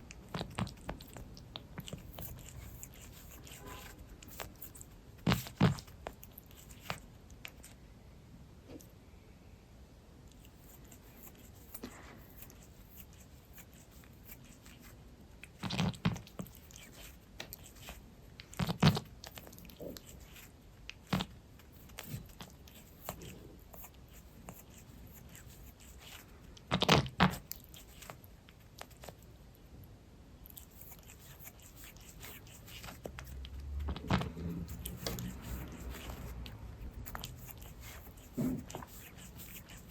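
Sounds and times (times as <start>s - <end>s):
cat licking fur: 0.0s - 7.8s, 10.3s - 29.3s, 30.4s - 39.9s.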